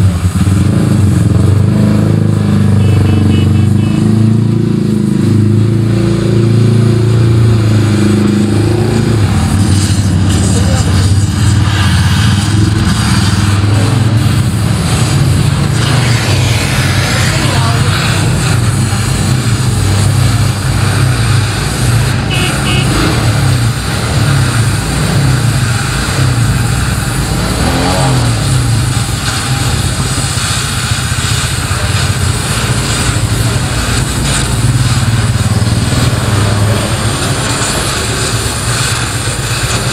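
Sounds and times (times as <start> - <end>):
welding torch roaring: 0.0 - 39.9.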